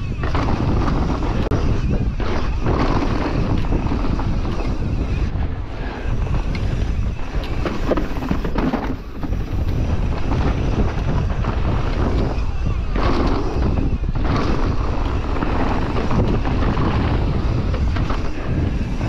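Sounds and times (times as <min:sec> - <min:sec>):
bike knocking and rattling: 0:00.0 - 0:19.0
bike tyre noise: 0:00.0 - 0:19.0
wind rushing over microphone: 0:00.0 - 0:19.0.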